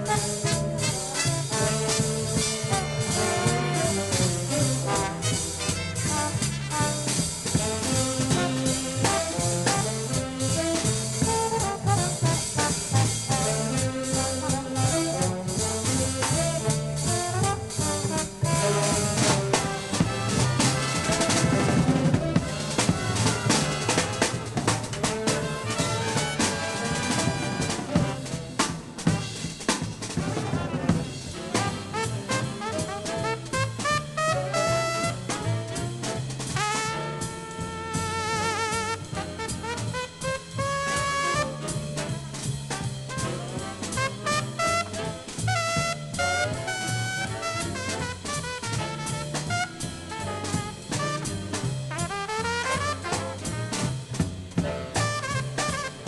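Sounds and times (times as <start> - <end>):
drum kit strokes: 0.0 - 56.0
swing big band playing: 0.0 - 56.0
trumpet solo: 0.0 - 56.0.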